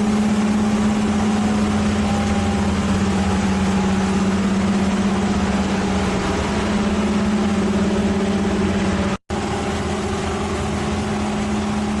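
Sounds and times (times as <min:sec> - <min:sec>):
heavy machine engine humming: 0:00.0 - 0:12.0.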